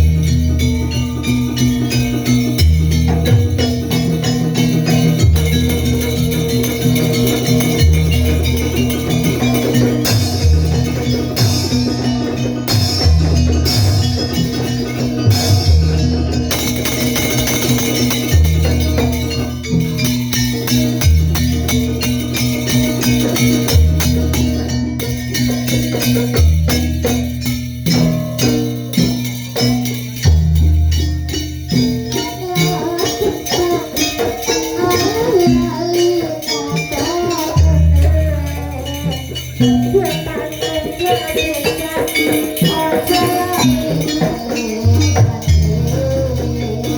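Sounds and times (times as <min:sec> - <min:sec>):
jingling percussion: 0:00.0 - 0:46.9
wavering melody line: 0:00.0 - 0:46.9.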